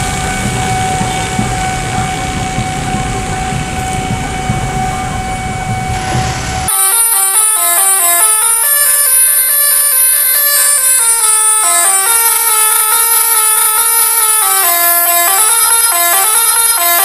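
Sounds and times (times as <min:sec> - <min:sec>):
electric train rumbling: 0:00.0 - 0:17.0
musical horn playing melody: 0:00.0 - 0:17.0
steady held tone: 0:00.0 - 0:17.0.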